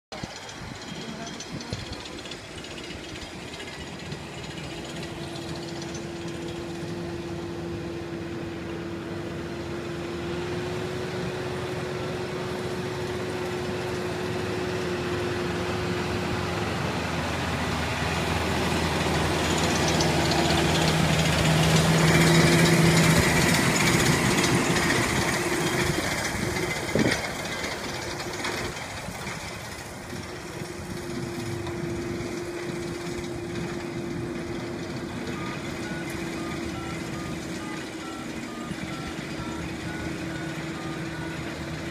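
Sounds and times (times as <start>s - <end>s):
tractor engine running under load: 0.0s - 41.9s.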